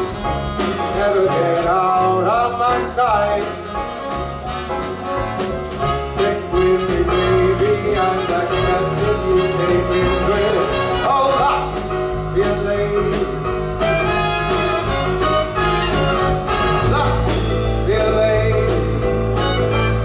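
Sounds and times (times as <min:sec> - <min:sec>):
brass section: 0:00.0 - 0:11.8, 0:13.7 - 0:18.0, 0:19.2 - 0:20.0
big band swing music: 0:00.0 - 0:20.0.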